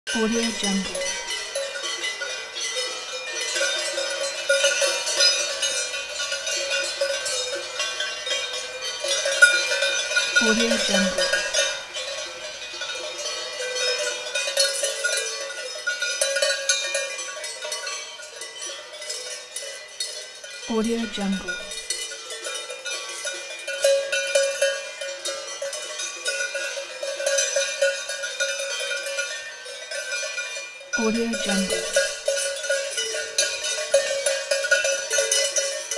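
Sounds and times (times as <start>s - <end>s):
cowbells clanking: 0.1s - 35.9s.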